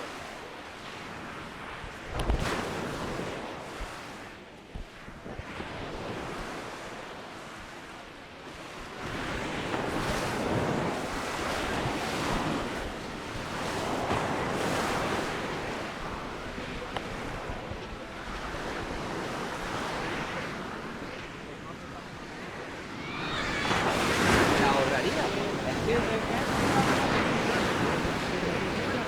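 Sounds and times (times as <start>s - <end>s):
sea waves washing onto beach: 0.0s - 29.0s.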